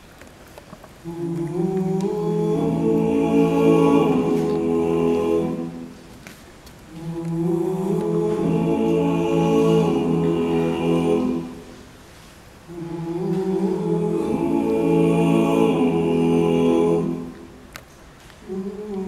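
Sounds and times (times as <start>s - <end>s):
male a cappella harmony singing: 1.0s - 6.2s, 6.9s - 11.9s, 12.6s - 17.6s, 18.4s - 19.0s.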